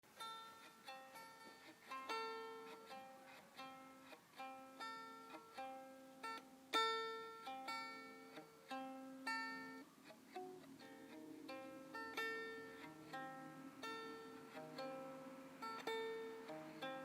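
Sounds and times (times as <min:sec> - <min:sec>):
plucked string melody: 0:00.1 - 0:17.0.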